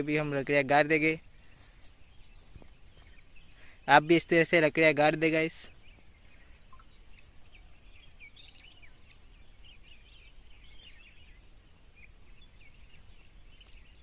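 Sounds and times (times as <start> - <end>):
distant birds chirping: 0.0 - 14.0.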